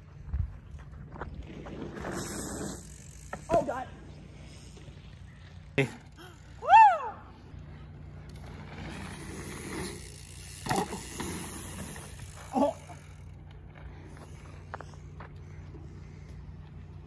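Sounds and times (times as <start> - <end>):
bike tyres rolling on dirt: 0.0 - 17.0.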